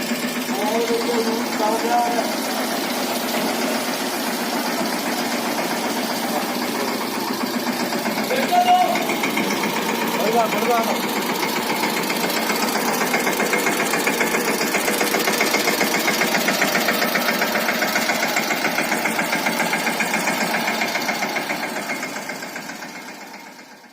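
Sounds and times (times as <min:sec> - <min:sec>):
tractor diesel engine thumping: 0:00.0 - 0:23.9.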